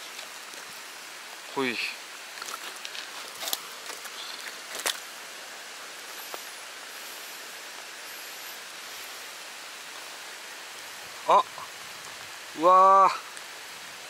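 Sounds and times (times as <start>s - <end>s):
rain and running water: 0.0s - 14.0s.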